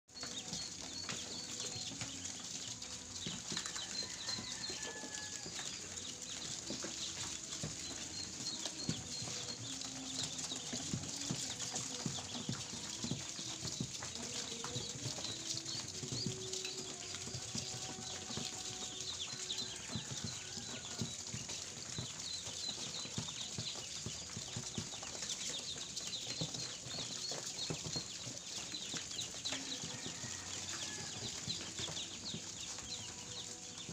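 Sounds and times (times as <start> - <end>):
crackle of small clicks and scratches: 0.1 - 33.9
ducklings peeping: 0.1 - 33.9.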